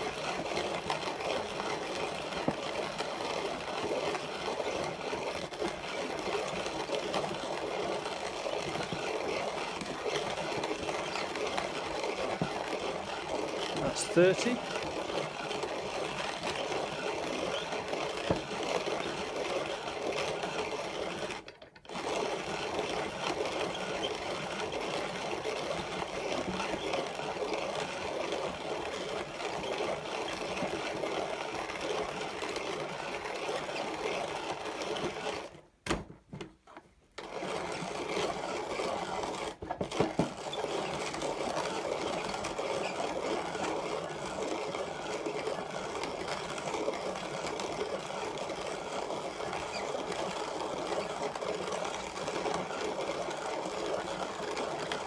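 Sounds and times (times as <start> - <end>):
hand coffee grinder crushing beans: 0.0 - 55.0.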